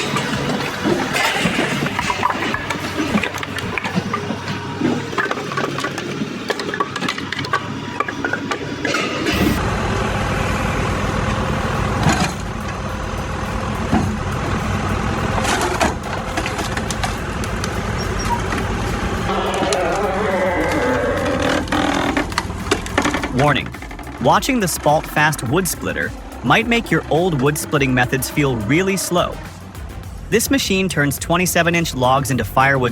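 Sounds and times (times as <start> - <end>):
machine drone: 0.0 - 30.4.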